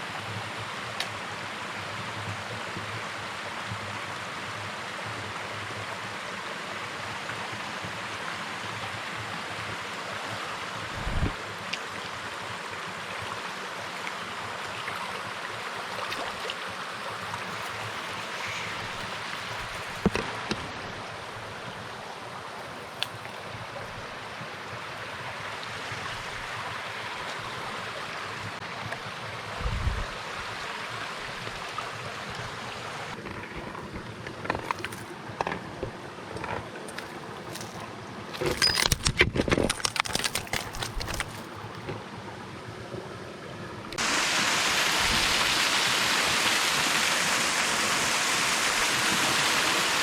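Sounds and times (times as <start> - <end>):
mountain stream flowing: 0.0 - 39.1, 39.7 - 50.0.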